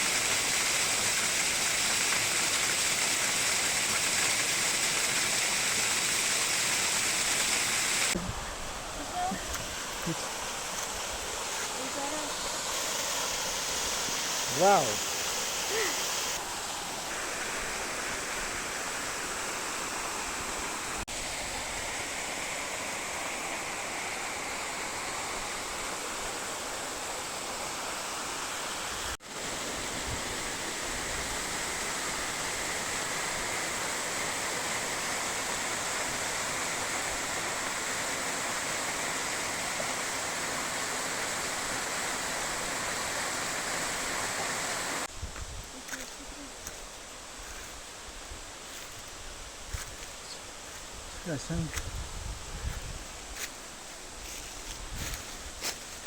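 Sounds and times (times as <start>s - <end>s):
waterfall rushing: 0.0s - 45.1s.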